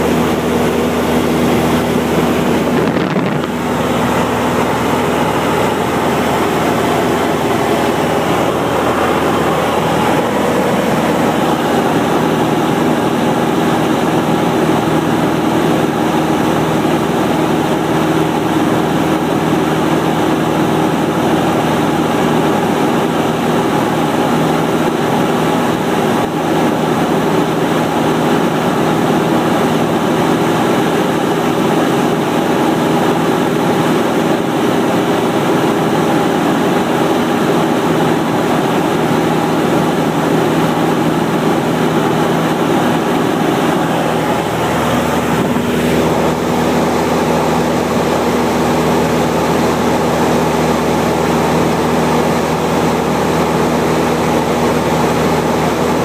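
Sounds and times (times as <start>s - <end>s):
light airplane engine droning: 0.0s - 56.0s.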